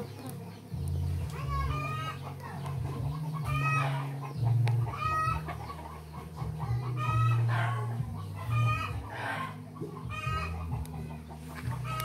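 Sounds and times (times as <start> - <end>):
steady low hum: 0.0 - 12.0
chicken calling: 1.2 - 12.0.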